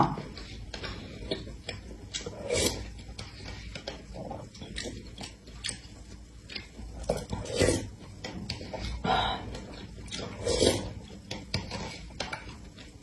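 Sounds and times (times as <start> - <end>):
chewing: 0.2 - 13.0.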